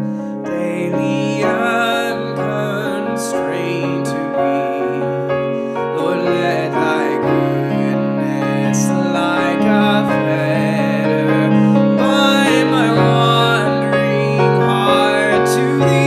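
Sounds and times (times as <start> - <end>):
man singing a hymn: 0.0 - 16.0
piano accompaniment: 0.0 - 16.0.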